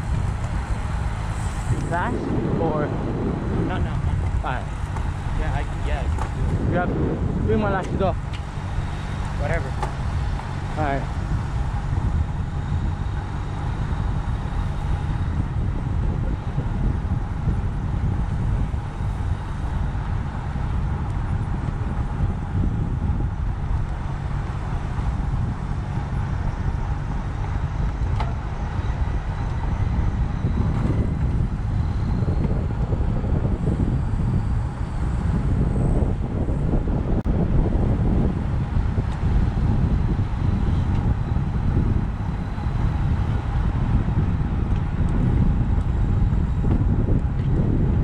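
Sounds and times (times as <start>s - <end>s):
wind rush and road noise: 0.0s - 48.0s.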